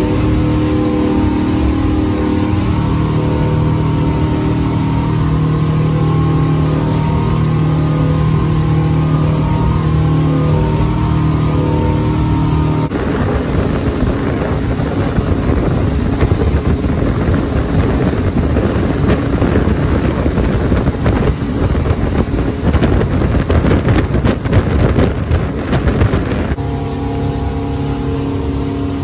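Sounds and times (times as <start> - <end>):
motorboat engine humming: 0.0 - 29.0
rushing water: 0.0 - 29.0
wind buffeting microphone: 0.0 - 29.0.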